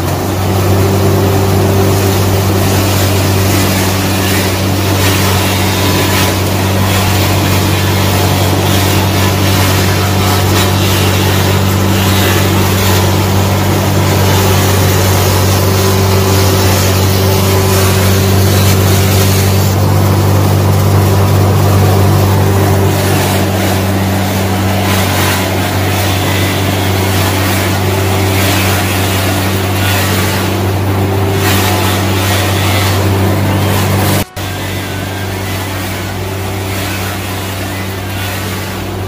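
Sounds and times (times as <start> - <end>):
toy motor buzzing hum: 0.8 - 39.0.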